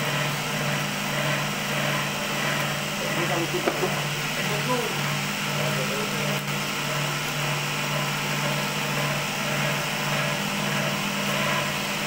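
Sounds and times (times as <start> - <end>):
cotton candy machine motor humming: 0.0 - 12.0.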